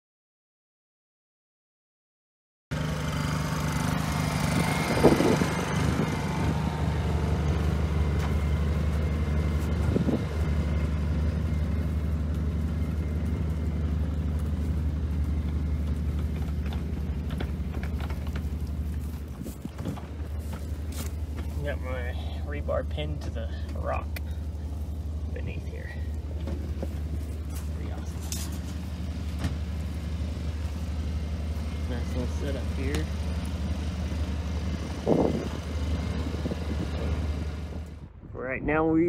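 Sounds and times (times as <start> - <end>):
engine idling: 2.7 - 38.2.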